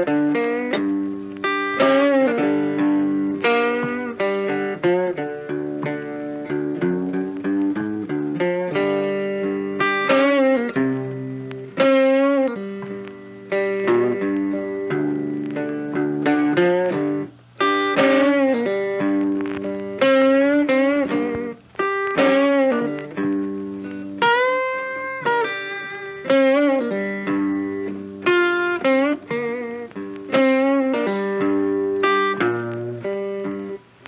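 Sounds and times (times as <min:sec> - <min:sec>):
plucked guitar melody: 0:00.0 - 0:34.0.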